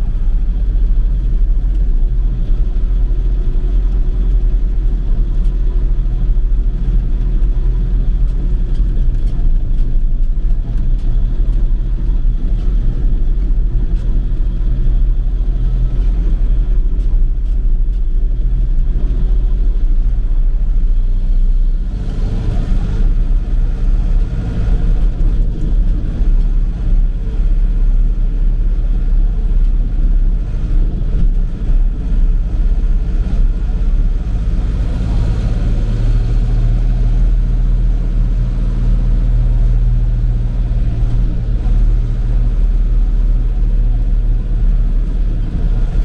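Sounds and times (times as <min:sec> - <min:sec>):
tractor engine droning: 0:00.0 - 0:46.0.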